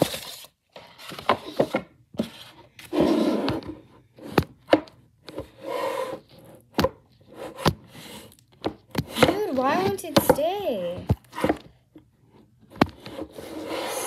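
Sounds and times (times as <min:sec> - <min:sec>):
camera rubbing scrapes: 0:00.0 - 0:04.4, 0:05.3 - 0:09.9, 0:11.2 - 0:14.0.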